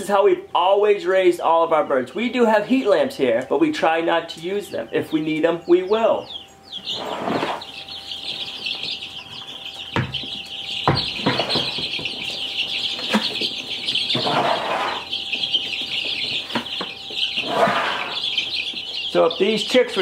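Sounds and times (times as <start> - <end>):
baby chicks peeping: 0.0 - 20.0.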